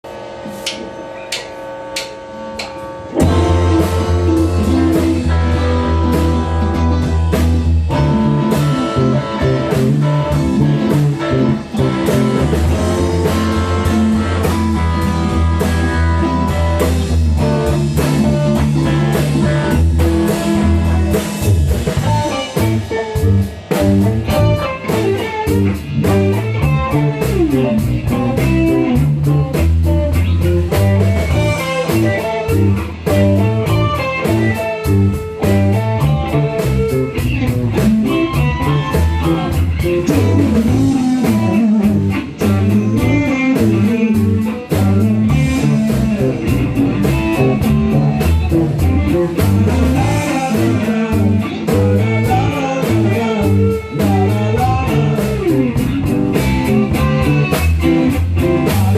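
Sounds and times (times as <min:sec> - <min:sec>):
drum kit beat: 0:00.0 - 0:58.9
electric guitar: 0:00.0 - 0:58.9
blues-rock band music: 0:00.1 - 0:58.9.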